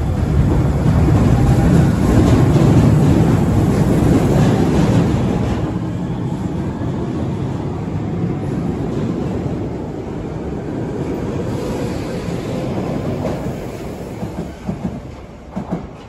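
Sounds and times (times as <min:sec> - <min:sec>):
train wheel and rail rumble: 0:00.0 - 0:16.0.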